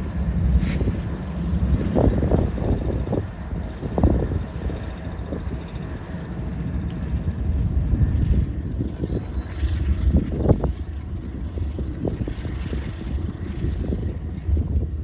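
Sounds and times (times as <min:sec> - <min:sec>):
passing train rumble: 0:00.0 - 0:15.0
wind buffeting microphone: 0:00.0 - 0:15.0.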